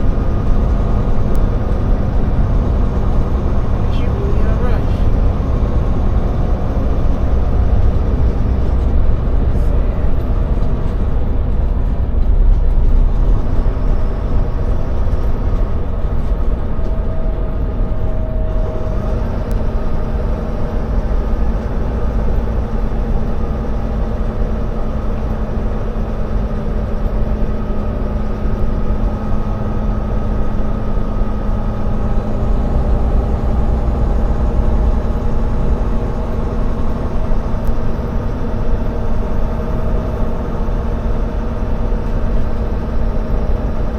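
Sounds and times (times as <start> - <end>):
road noise: 0.0 - 43.9
truck diesel engine rumble: 0.0 - 43.9.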